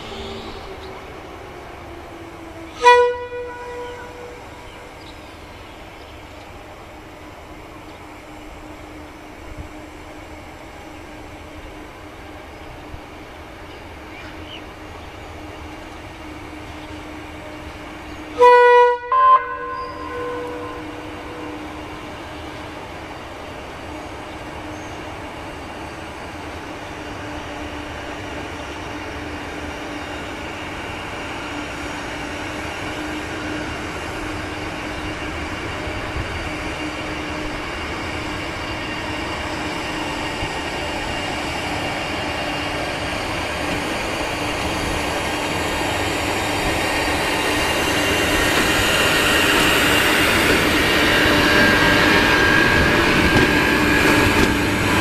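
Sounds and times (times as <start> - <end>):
electric locomotive humming: 0.0 - 55.0.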